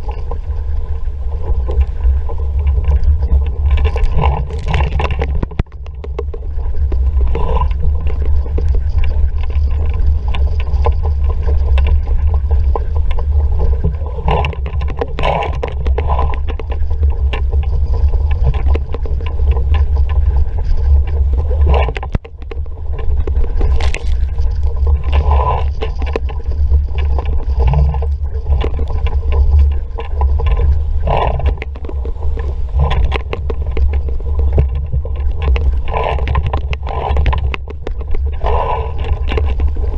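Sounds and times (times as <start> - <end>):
water rushing and slapping hull: 0.0 - 39.9
wind buffeting microphone: 0.0 - 39.9.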